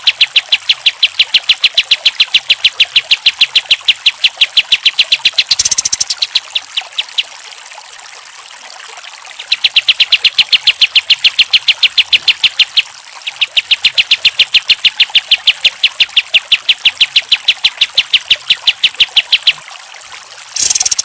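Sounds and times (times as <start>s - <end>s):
bulbul calling rapid sharp notes: 0.0s - 7.3s, 9.4s - 19.6s, 20.6s - 21.0s.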